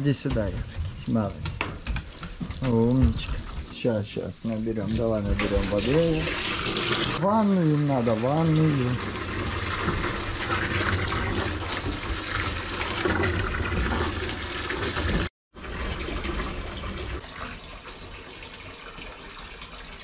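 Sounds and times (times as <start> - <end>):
water filling a tub: 0.0 - 20.0.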